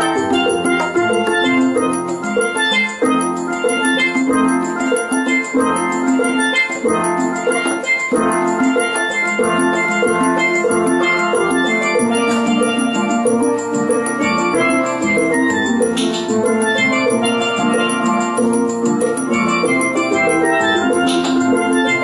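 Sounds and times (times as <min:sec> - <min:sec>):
steel drums playing a lively tune: 0:00.0 - 0:22.0.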